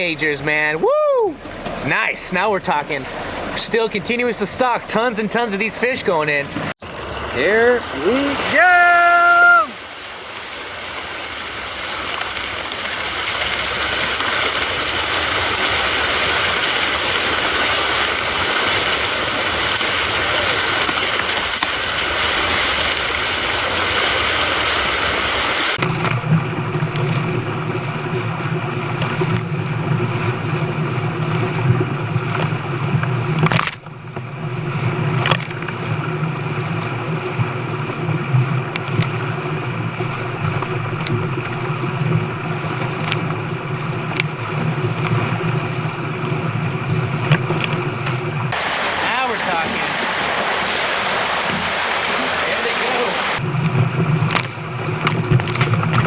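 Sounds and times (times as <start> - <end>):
low engine hum: 6.4 - 8.5, 9.8 - 56.0
water gushing into lake: 6.8 - 56.0.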